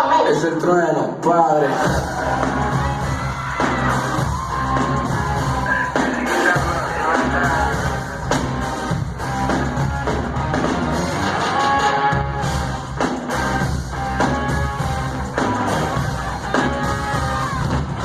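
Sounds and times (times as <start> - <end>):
drums: 1.2 - 18.0
heavy bass line: 1.7 - 18.0
live band playing: 1.7 - 18.0.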